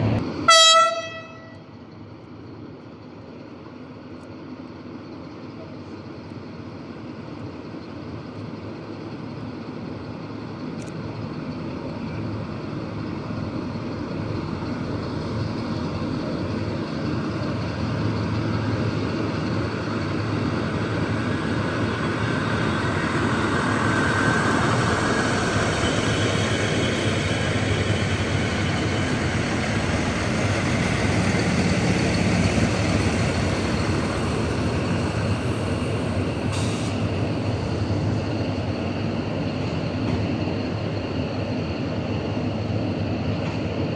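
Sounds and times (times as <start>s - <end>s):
diesel railcar engines running: 0.0s - 43.9s.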